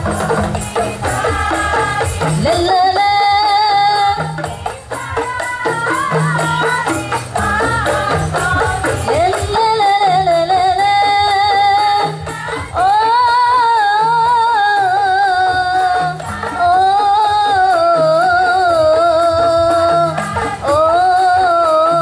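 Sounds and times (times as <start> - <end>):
frame drum accompaniment: 0.0 - 22.0.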